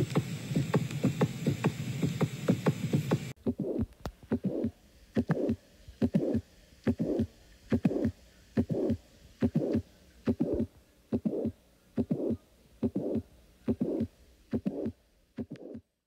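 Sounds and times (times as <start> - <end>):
hiss: 0.0 - 3.4, 4.4 - 15.8
heartbeat with whooshing murmur: 0.0 - 15.9.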